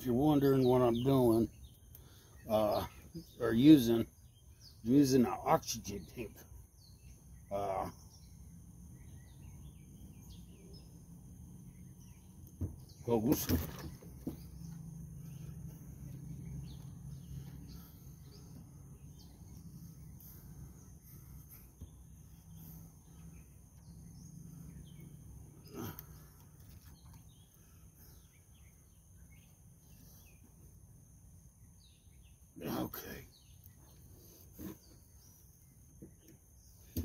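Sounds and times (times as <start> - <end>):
bird chirps: 0.0 - 37.0
low steady hum: 1.4 - 37.0.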